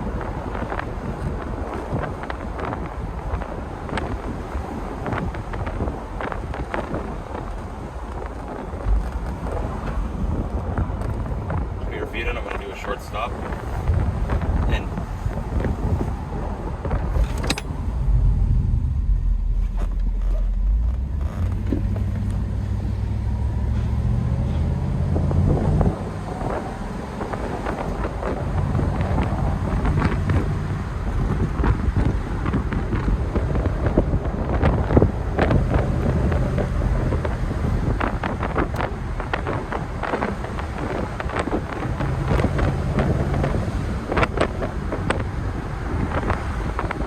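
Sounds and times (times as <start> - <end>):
car engine pulling: 0.0 - 47.0
road and wind noise: 0.0 - 47.0.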